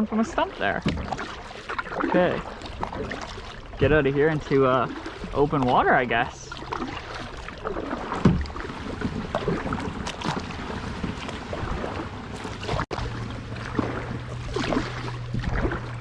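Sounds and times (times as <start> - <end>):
paddle splashing in water: 0.0 - 16.0.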